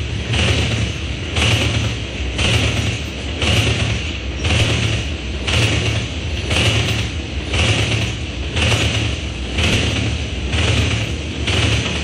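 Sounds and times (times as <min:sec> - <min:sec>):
sharp clatter of train wheels: 0:00.0 - 0:12.0
train wheels rumbling on rail: 0:00.0 - 0:12.0.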